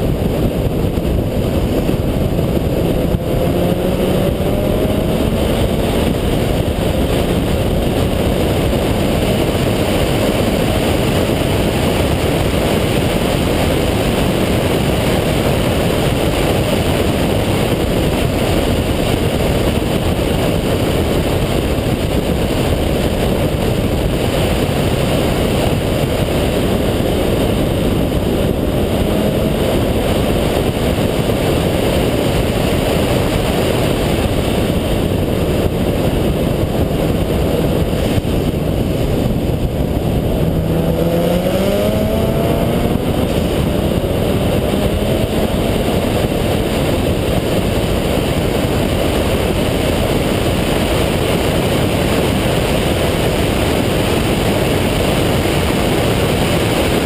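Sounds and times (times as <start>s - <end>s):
rotary engine accelerating: 0.0s - 57.0s
wind and road rush: 0.0s - 57.0s.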